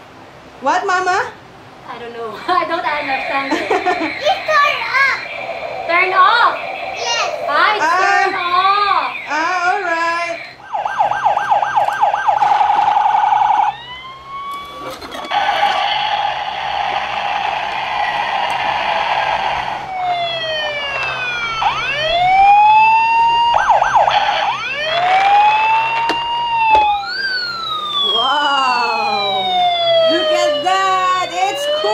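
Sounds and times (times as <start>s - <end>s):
toy truck electronic siren: 3.6s - 31.9s.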